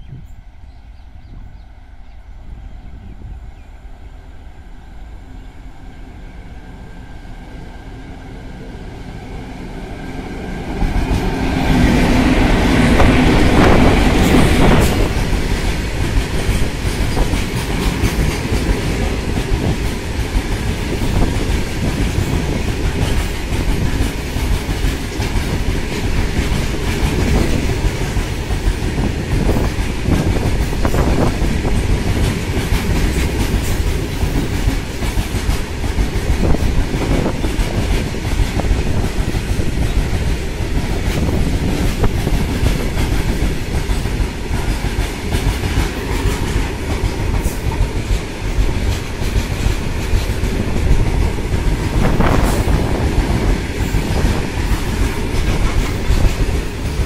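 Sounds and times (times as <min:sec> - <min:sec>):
freight train passing: 0:00.0 - 0:57.0
clickety-clack of wheels over rail joints: 0:10.2 - 0:57.0.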